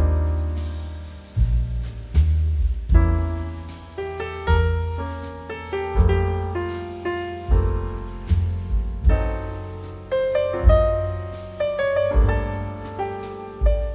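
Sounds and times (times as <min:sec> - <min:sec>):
piano background music: 0:00.0 - 0:13.9.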